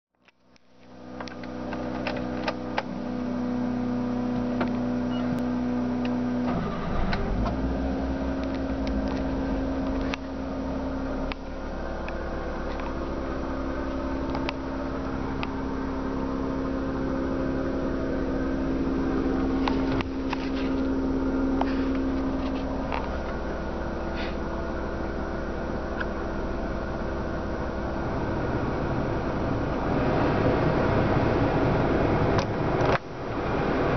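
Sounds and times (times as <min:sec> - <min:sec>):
van engine running: 0:00.3 - 0:33.9.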